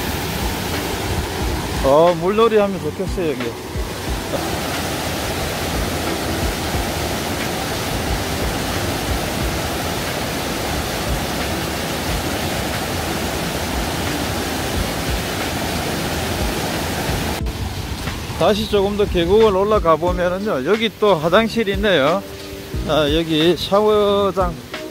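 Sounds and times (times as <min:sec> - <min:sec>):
stream rushing over boulders: 0:00.0 - 0:24.9.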